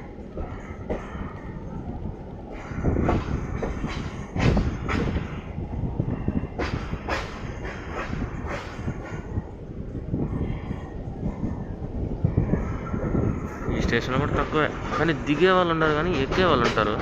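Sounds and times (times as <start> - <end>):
train wheels clattering over rails: 0.0 - 10.7, 12.2 - 17.0.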